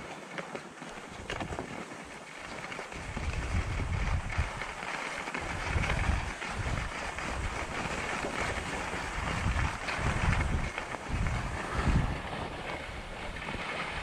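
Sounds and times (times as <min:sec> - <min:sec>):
skis scraping on snow: 0:00.0 - 0:14.0
wind buffeting microphone: 0:02.4 - 0:14.0.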